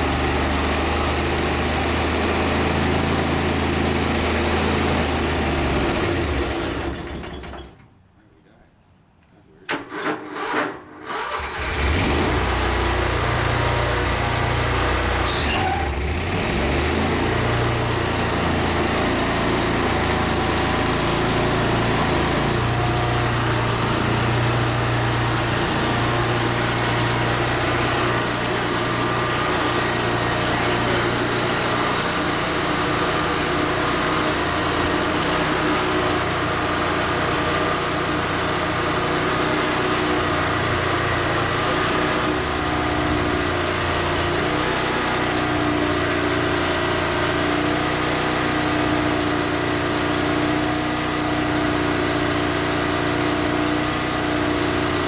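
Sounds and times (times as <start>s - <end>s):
engine cranking and running: 0.0s - 8.0s, 9.7s - 55.0s.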